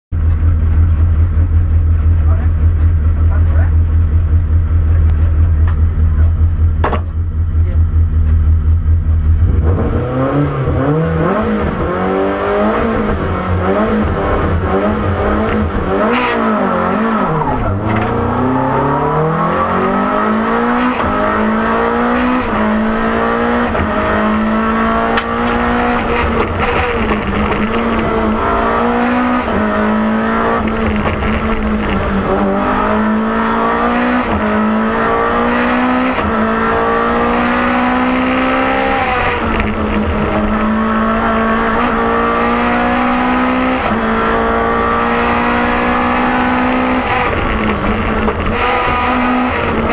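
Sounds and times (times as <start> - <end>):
rally car engine accelerating: 0.2 - 49.9.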